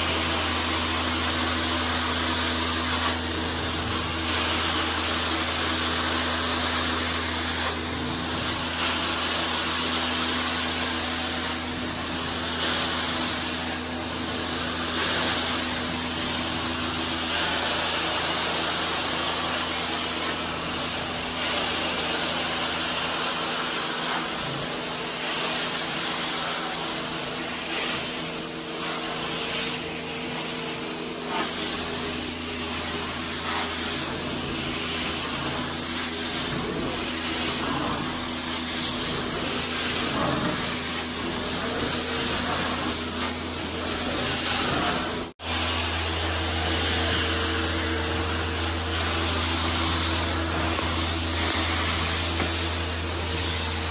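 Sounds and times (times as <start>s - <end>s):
vacuum suction: 1.7s - 53.9s.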